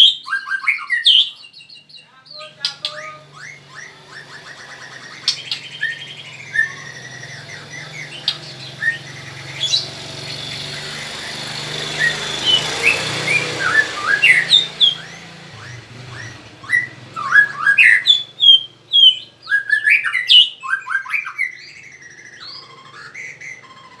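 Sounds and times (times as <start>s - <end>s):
songbird chirping and whistling: 0.0s - 24.0s.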